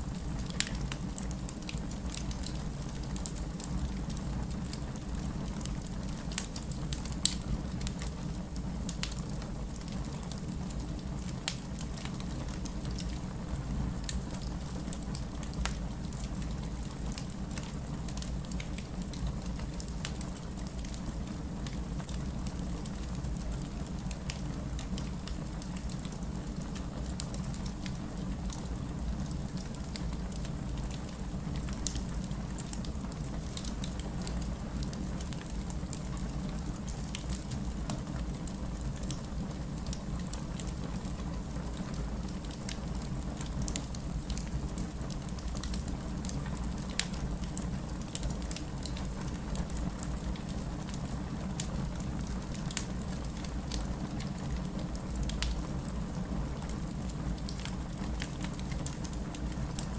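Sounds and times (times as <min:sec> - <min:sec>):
wood fire burning: 0:00.0 - 0:59.9
crackles and pops of burning logs: 0:00.1 - 0:59.9.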